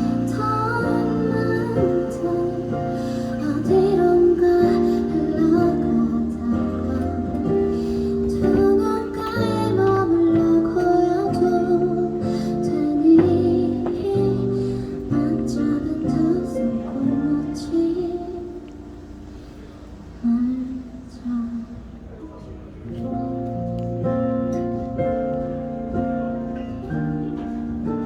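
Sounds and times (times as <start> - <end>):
plucked guitar: 0.0 - 19.4, 22.0 - 28.0
keyboard chords: 0.0 - 28.0
soft pop ballad: 0.0 - 28.0.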